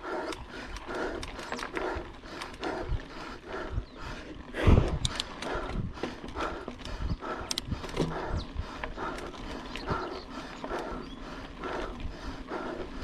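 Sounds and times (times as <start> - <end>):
bike trail noise: 0.0 - 13.0
person breathing hard: 0.0 - 13.0.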